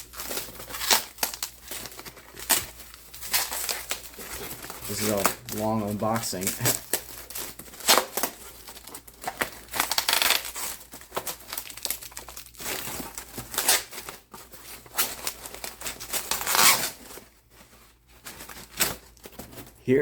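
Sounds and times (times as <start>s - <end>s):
packaging crinkling: 0.0s - 19.8s.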